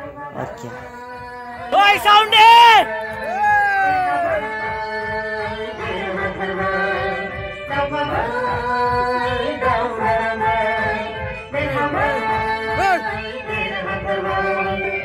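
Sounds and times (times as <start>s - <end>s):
song over a sound system: 0.0s - 15.0s.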